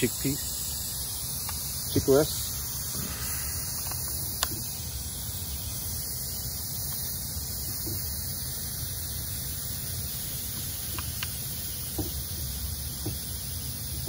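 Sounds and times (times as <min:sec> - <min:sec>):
compressed air hissing: 0:00.0 - 0:14.0.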